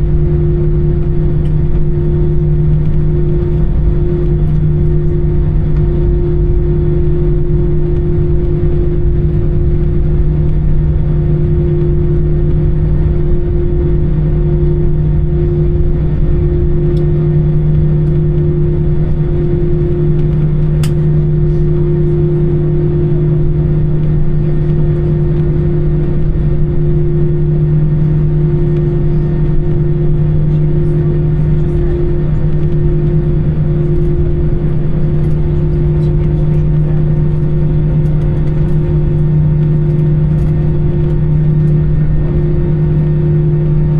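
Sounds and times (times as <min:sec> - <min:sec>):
airplane cabin engine drone: 0:00.0 - 0:43.9.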